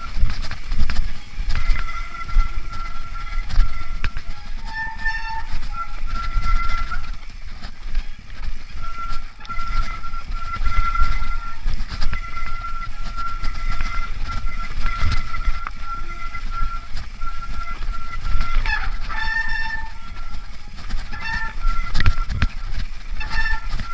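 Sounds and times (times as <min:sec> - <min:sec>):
bike brakes squealing: 0:00.0 - 0:23.9
bike rattling: 0:00.0 - 0:23.9
wind rumble on microphone: 0:00.0 - 0:23.9.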